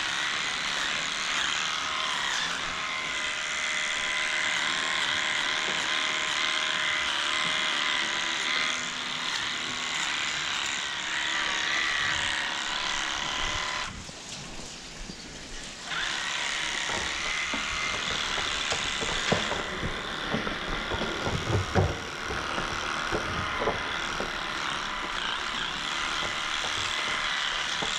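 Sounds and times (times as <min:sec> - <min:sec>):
electric clippers buzzing: 0:00.0 - 0:14.0, 0:15.8 - 0:27.9.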